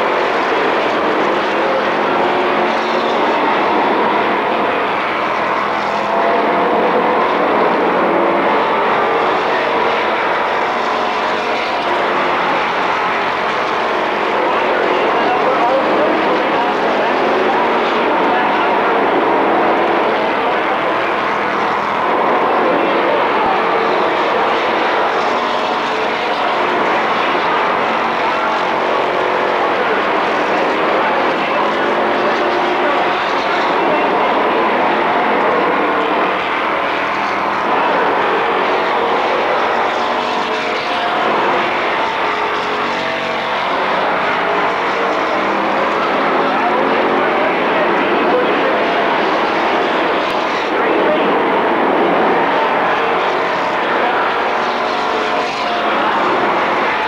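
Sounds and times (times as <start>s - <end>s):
racing car engines passing: 0.0s - 57.0s.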